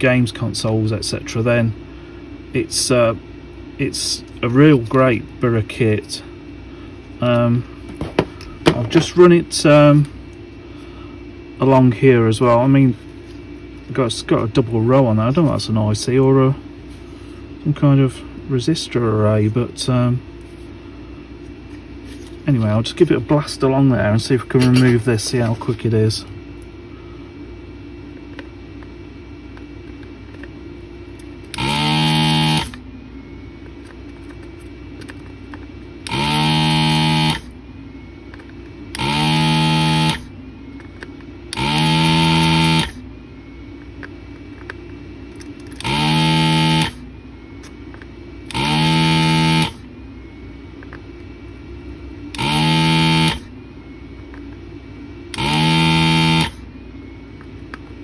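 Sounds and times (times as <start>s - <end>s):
steady low hum: 0.0s - 58.0s
vacuum pump buzzing: 0.0s - 58.0s.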